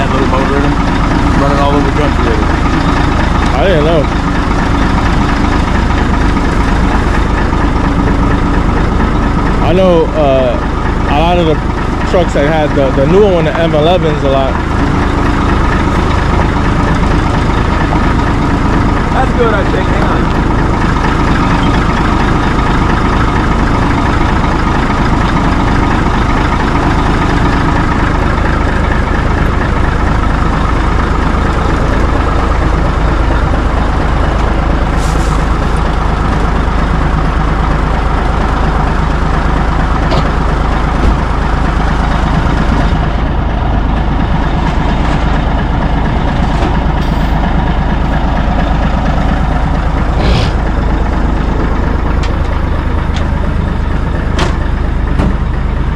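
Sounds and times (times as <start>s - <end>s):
diesel truck engine rumbling: 0.0s - 55.9s.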